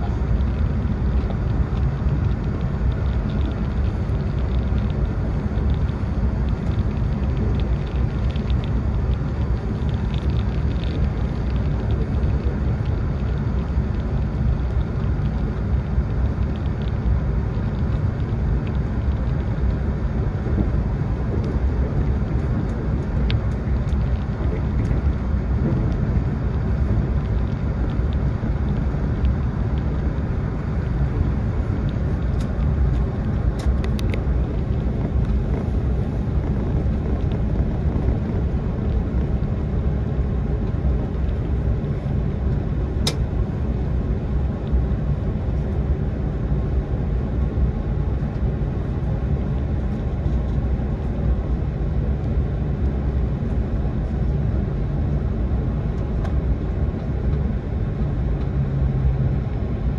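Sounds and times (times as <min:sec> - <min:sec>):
train low rumble from inside: 0:00.0 - 0:59.9.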